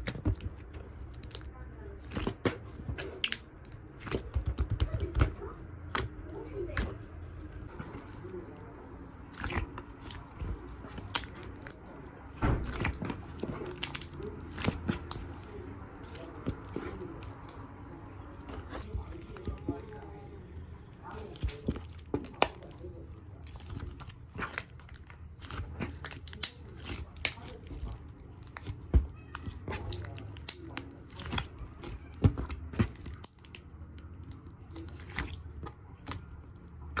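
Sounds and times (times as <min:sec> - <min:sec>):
ice slime crackling and crunching: 0:00.0 - 0:05.3, 0:07.7 - 0:37.0.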